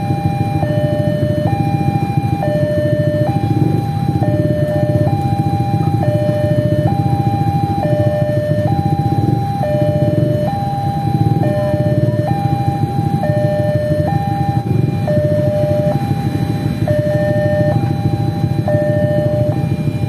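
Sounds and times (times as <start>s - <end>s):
level crossing two-tone alarm: 0.0s - 20.0s
vehicle engines running: 0.0s - 20.0s.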